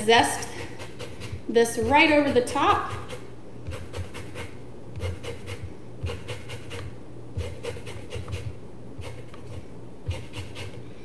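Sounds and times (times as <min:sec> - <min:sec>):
lemon rasping on a zester: 0:00.0 - 0:10.8.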